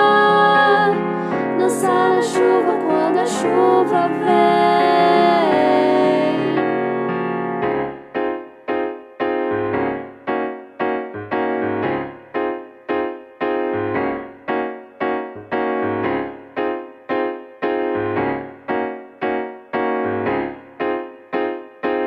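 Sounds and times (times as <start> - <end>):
electronic keyboard piano chords: 0.0 - 22.0.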